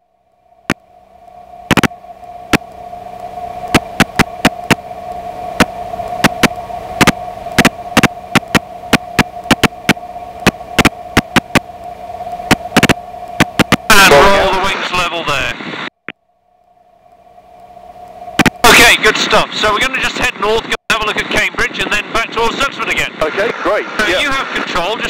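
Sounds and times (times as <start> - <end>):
electrical hum: 0.0 - 25.0
static clicks and crackles: 0.6 - 25.0.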